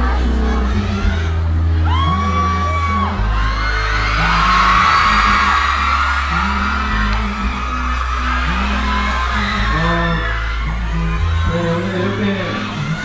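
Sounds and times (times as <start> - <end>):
crowd screaming and whooping: 0.0 - 13.0
pop music: 0.0 - 13.0.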